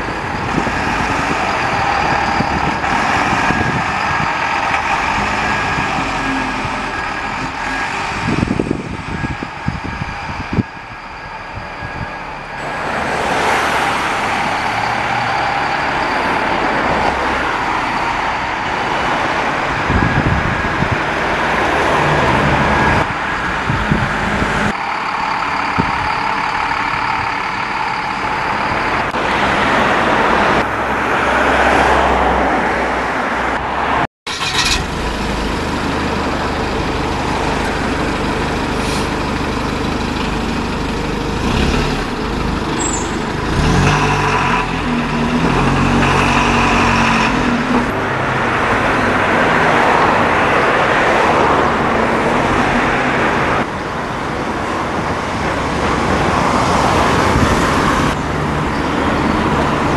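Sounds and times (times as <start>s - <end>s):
bus diesel engines running: 0.0s - 59.9s.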